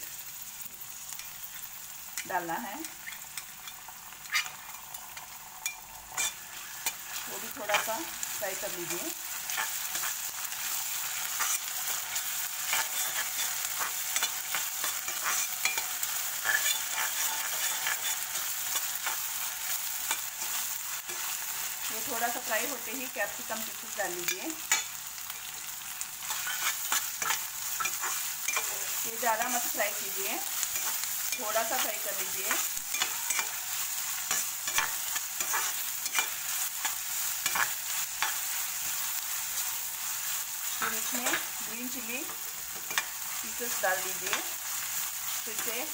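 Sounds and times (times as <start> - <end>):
onions sizzling in oil: 0.0 - 45.9
spatula scraping pan: 2.8 - 21.8, 26.2 - 45.9.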